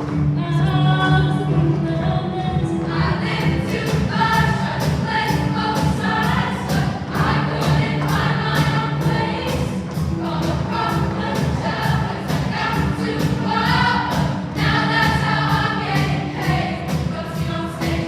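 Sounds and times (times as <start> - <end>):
choir singing pop song: 0.5 - 18.0
accompaniment with steady beat: 2.5 - 18.0.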